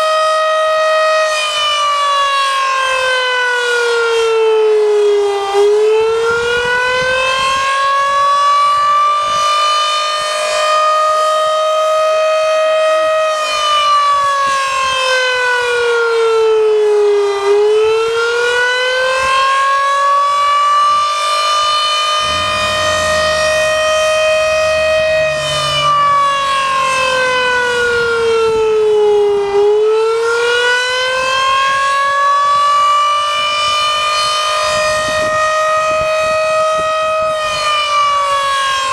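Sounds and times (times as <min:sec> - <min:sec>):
air-raid siren wailing: 0:00.0 - 0:38.9.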